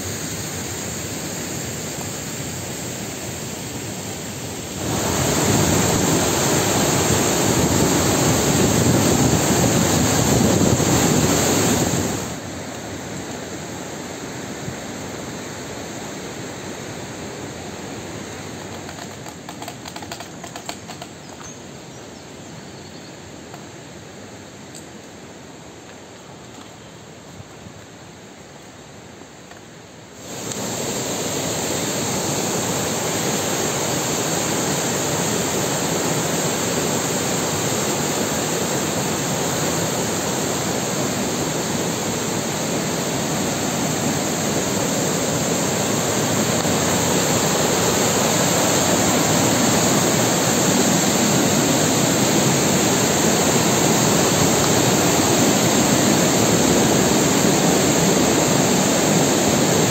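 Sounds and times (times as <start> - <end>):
waterfall and stream rushing: 0.0 - 19.2, 27.0 - 59.9.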